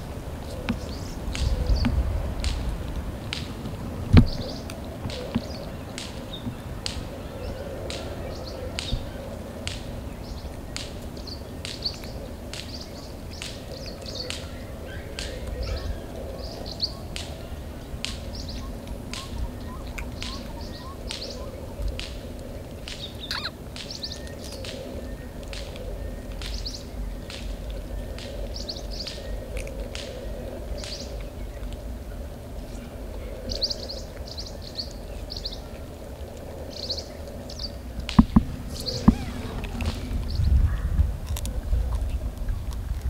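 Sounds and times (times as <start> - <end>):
higher bird calls: 0.0 - 31.8, 36.6 - 41.0
small birds chirping: 0.0 - 43.0.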